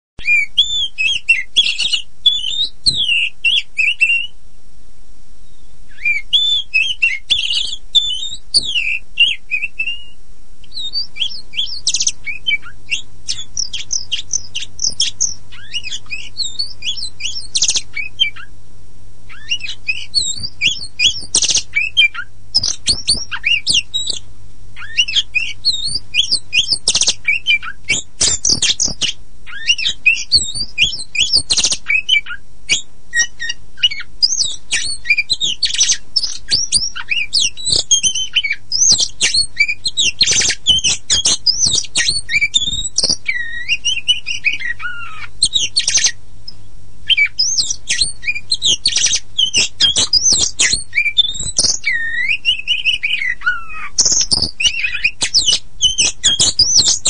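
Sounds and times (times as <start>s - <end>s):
magpie-robin singing: 0.2s - 4.4s, 5.4s - 18.5s, 19.3s - 57.0s.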